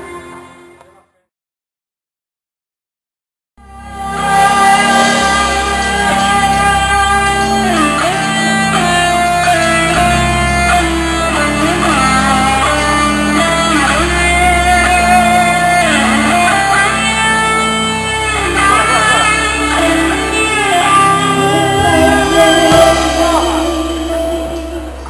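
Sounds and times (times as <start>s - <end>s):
held bass notes: 3.6s - 25.0s
guitar lead with bending notes: 3.7s - 25.0s.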